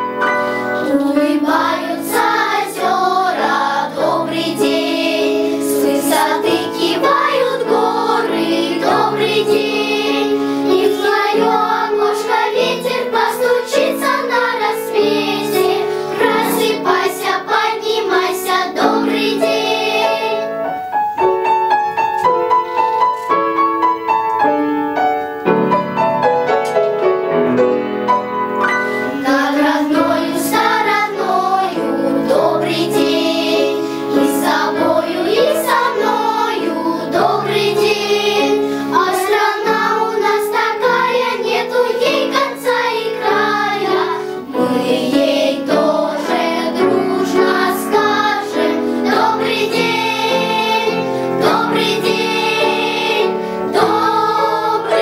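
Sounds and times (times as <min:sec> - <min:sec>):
girls choir singing: 0:00.0 - 0:20.9, 0:29.1 - 0:55.0
piano accompaniment: 0:00.0 - 0:55.0.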